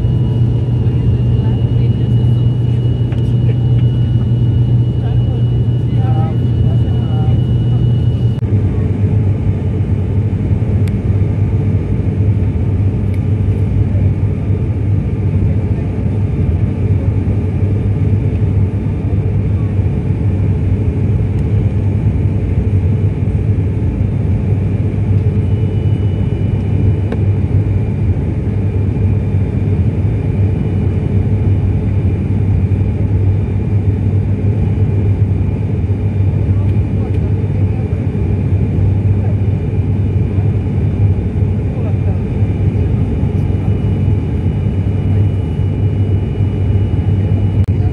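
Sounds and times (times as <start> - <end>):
turboprop engines droning in cabin: 0.0 - 47.9.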